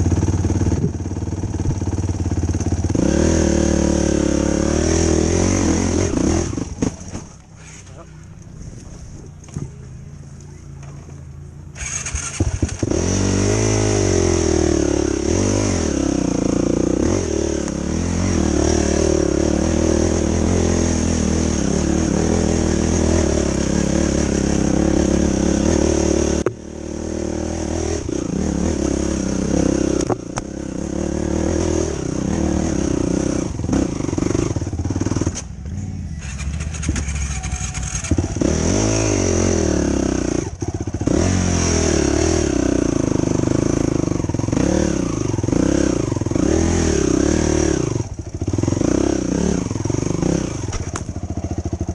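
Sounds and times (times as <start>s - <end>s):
quad engine revving: 0.0s - 9.6s, 11.7s - 51.9s.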